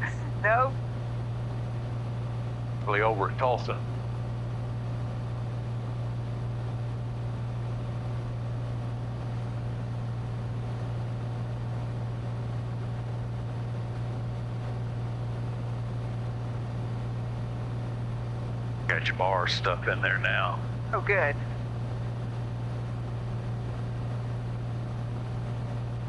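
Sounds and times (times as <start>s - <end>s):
airplane engine droning in cabin: 0.0s - 26.0s.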